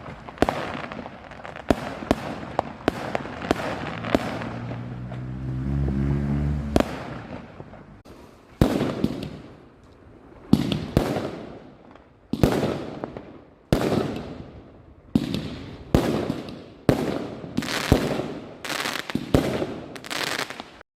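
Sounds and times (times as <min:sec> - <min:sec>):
fireworks bangs: 0:00.0 - 0:05.4, 0:06.6 - 0:09.6, 0:10.4 - 0:20.8.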